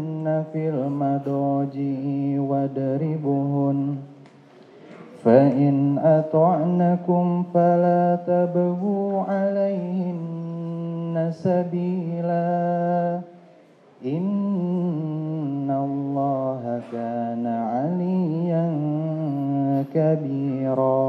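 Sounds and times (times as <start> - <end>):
man chanting into a microphone: 0.0 - 4.2, 5.0 - 21.0.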